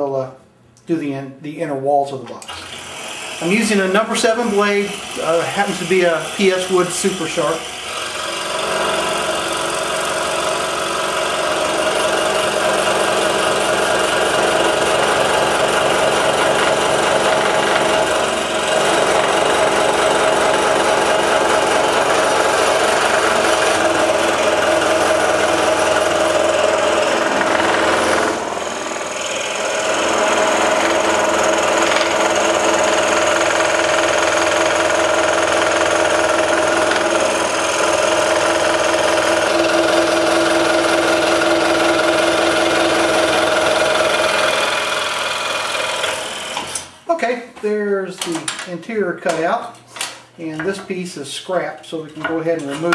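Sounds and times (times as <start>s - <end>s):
scroll saw cutting wood: 2.4s - 47.0s.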